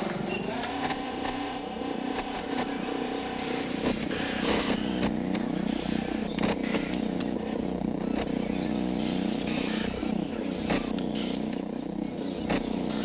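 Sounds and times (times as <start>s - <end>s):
small engines running: 0.0s - 13.0s.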